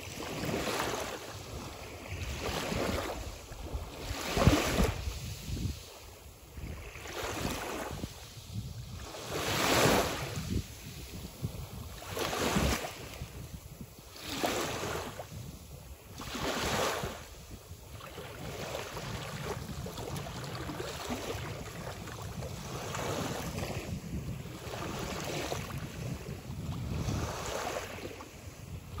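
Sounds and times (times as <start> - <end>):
sea waves washing on sand: 0.0 - 29.0.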